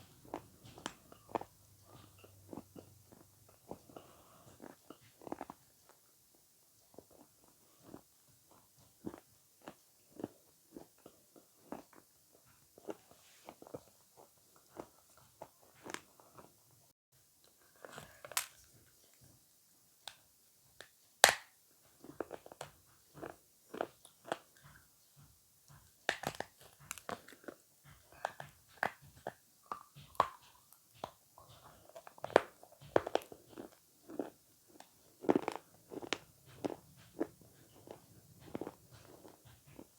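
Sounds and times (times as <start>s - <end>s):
chewing avocado: 0.0s - 16.6s, 21.8s - 39.9s.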